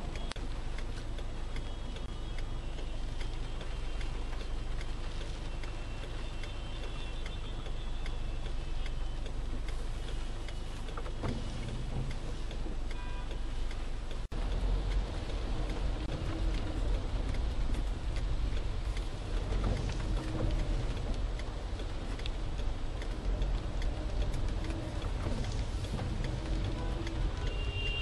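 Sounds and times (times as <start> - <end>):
low rumble of car: 0.0 - 28.0
rain tapping on car roof: 0.0 - 28.0.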